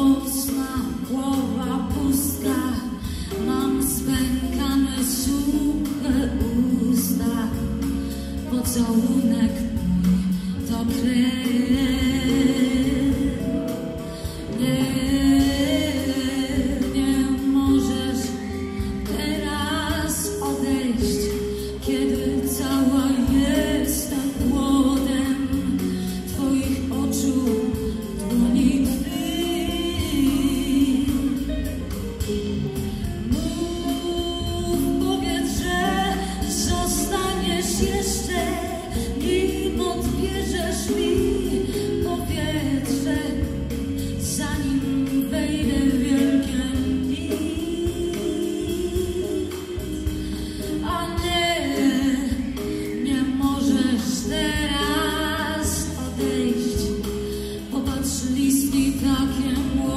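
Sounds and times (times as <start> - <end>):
bass guitar: 0.0 - 59.9
drum kit with cymbals: 0.0 - 59.9
electric guitar: 0.0 - 59.9
woman singing: 0.0 - 59.9.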